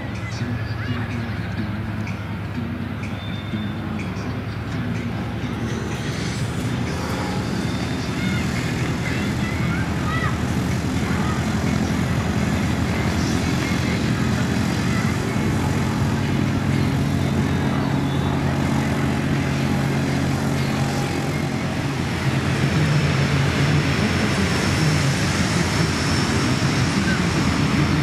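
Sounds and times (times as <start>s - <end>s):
radial aircraft engine running: 0.0s - 28.0s.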